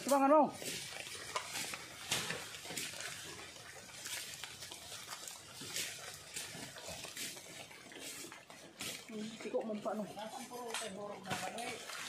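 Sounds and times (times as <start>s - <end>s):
rustling of leaves and undergrowth: 0.0s - 12.0s.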